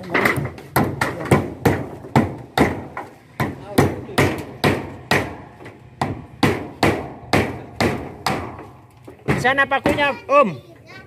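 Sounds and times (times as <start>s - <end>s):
hammer driving nails: 0.1s - 10.0s.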